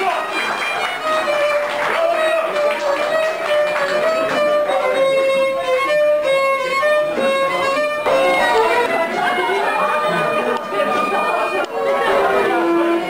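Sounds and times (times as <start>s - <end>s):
plucked strings: 0.0s - 13.0s
violin melody: 0.0s - 13.0s.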